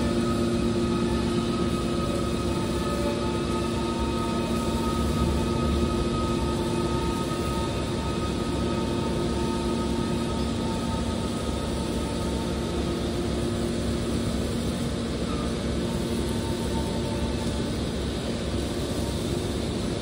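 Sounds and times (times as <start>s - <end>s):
whining tones: 0.0s - 19.8s
hydraulic pump and motor hum: 0.0s - 20.0s.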